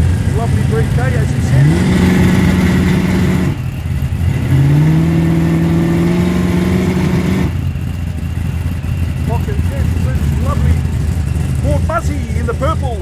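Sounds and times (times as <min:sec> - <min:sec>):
car engine revving: 0:00.0 - 0:13.0
low engine rumble: 0:00.0 - 0:13.0.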